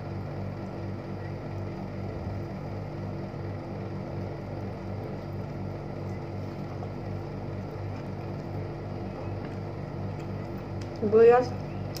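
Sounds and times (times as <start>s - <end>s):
throbbing mechanical hum: 0.0s - 12.0s.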